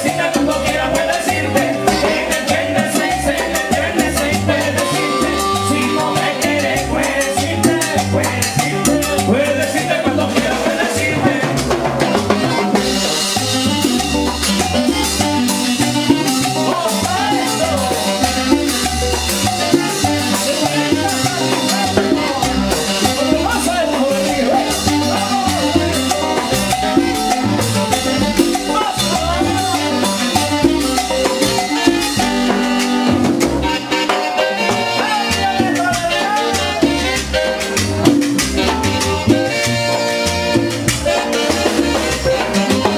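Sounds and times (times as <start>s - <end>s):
high hand percussion: 0.0s - 42.9s
live dance band playing: 0.0s - 42.9s.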